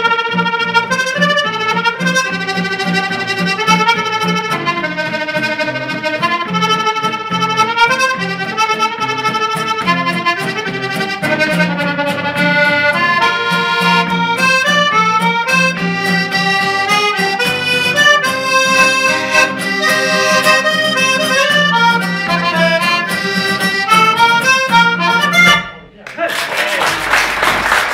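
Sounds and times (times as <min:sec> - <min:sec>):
accordion playing folk dance tune: 0:00.0 - 0:26.0.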